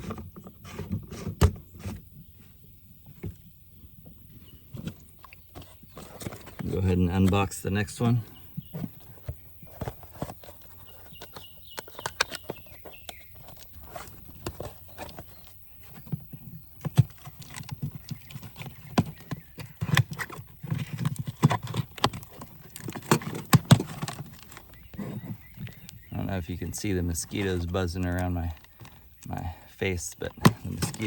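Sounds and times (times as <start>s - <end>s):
hands handling packaging: 4.8s - 16.2s, 16.8s - 26.0s, 26.7s - 31.0s.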